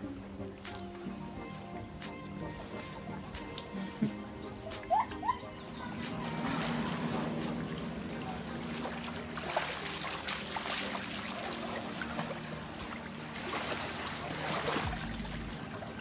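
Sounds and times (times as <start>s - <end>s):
low steady hum: 0.0s - 16.0s
water splashing and trickling: 0.0s - 16.0s.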